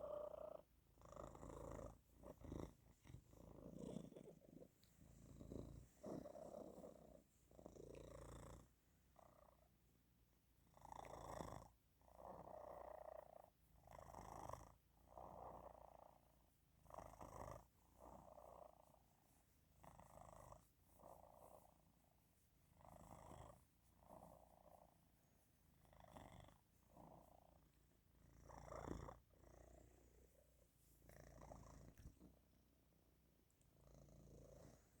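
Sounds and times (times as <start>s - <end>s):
cat snore-purring: 0.0s - 9.7s, 10.7s - 19.0s, 19.8s - 21.8s, 22.8s - 25.0s, 25.8s - 32.5s, 33.8s - 35.0s.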